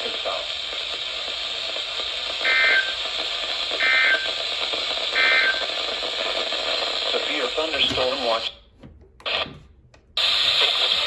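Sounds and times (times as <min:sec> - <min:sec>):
radio hiss: 0:00.0 - 0:08.6, 0:09.2 - 0:09.5, 0:10.2 - 0:11.0.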